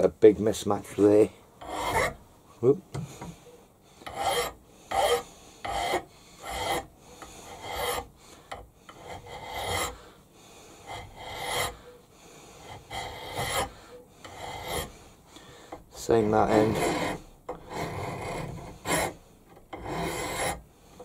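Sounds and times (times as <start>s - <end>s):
hand file scraping metal: 0.8s - 2.2s, 4.0s - 21.0s.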